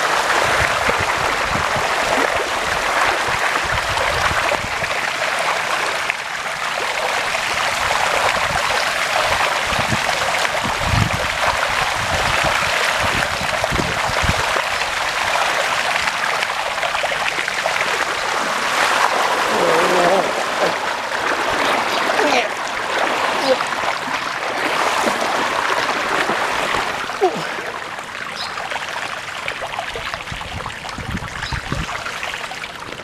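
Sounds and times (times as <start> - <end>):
floodwater rushing and sloshing: 0.0 - 33.0.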